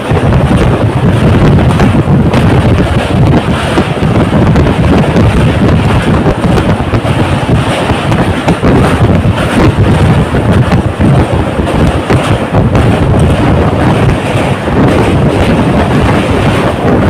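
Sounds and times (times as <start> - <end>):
train rumbling over bridge: 0.0 - 17.0
wind buffeting microphone: 0.0 - 17.0.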